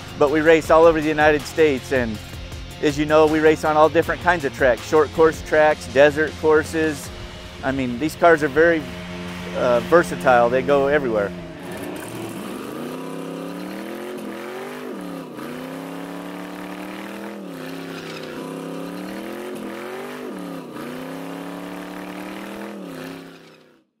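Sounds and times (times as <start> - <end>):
race car engine revving: 0.0 - 23.9.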